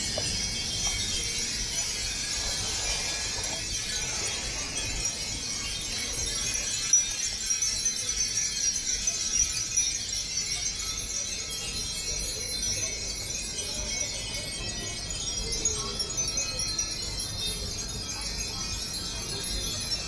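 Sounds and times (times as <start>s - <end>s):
wind bells tinkling: 0.0s - 20.0s.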